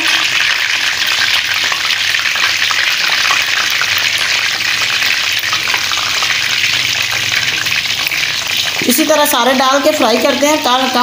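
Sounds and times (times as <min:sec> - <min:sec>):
food deep-frying with crackles: 0:00.0 - 0:11.0.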